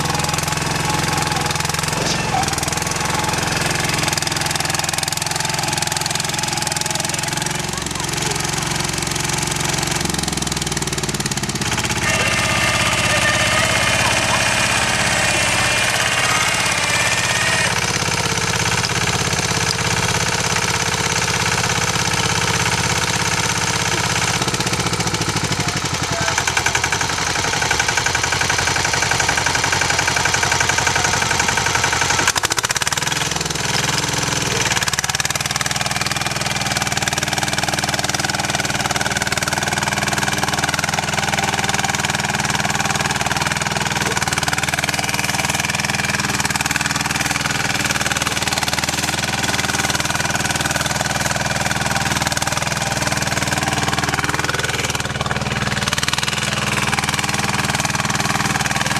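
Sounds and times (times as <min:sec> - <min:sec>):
rotary tiller engine running: 0:00.0 - 0:58.9.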